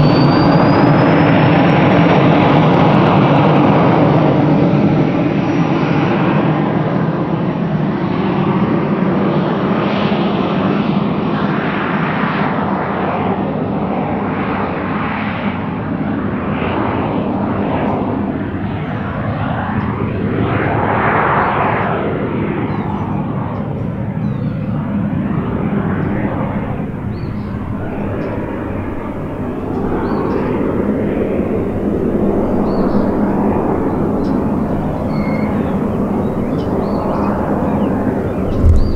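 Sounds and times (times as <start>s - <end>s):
jet engine roaring at takeoff: 0.0s - 38.9s.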